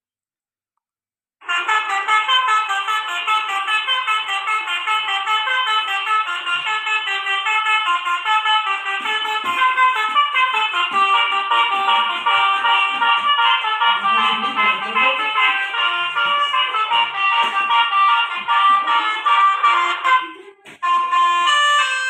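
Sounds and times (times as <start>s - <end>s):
multi-tone horn melody: 1.4s - 22.0s.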